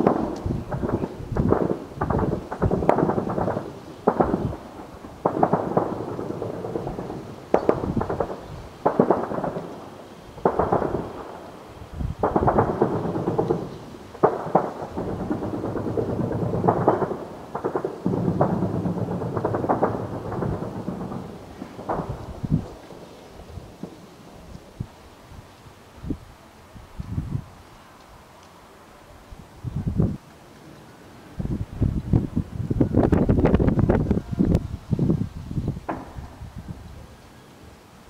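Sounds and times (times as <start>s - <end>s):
shelling blasts with rolling rumble: 0.0s - 37.8s.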